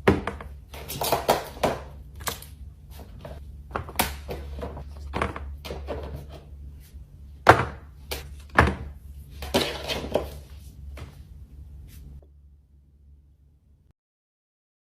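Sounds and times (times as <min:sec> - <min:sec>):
low hum: 0:01.8 - 0:13.9.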